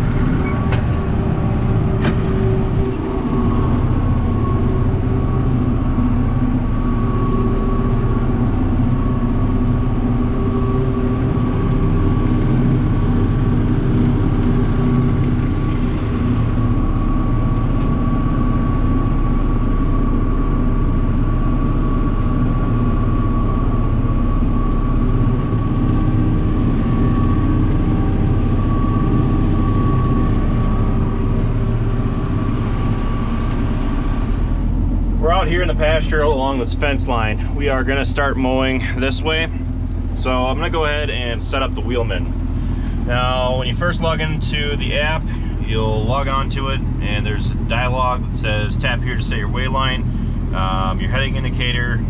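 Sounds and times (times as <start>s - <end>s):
steady high whine: 0.0s - 52.0s
tractor diesel engine under load: 0.0s - 52.0s.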